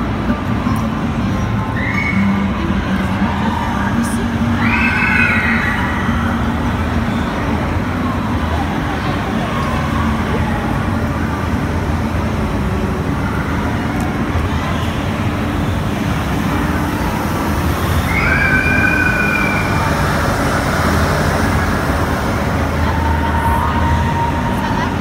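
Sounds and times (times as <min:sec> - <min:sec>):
indoor amusement park din: 0:00.0 - 0:25.0.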